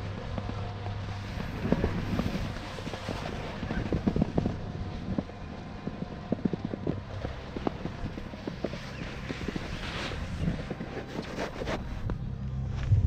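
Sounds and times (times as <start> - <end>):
low hum of running lift: 0.0 - 13.0
wind buffeting microphone: 0.0 - 13.0.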